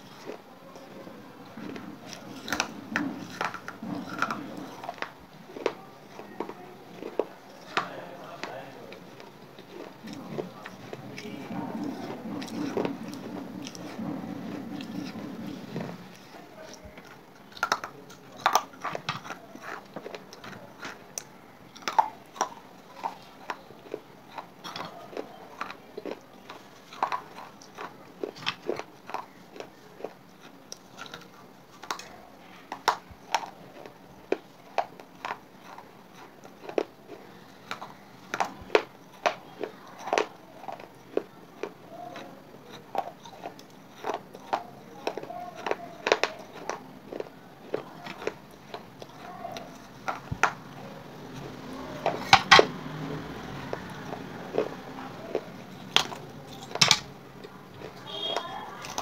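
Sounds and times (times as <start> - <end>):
clay chips crunching: 0.0 - 59.0.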